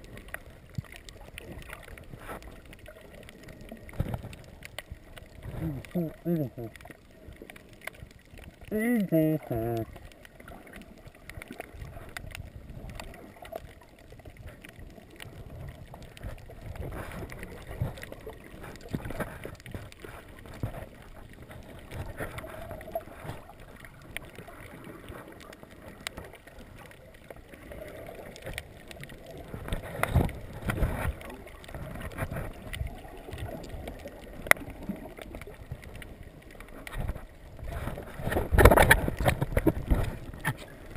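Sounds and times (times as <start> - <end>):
faint scattered underwater clicks: 0.0 - 40.9
muffled underwater water rush: 0.0 - 40.9.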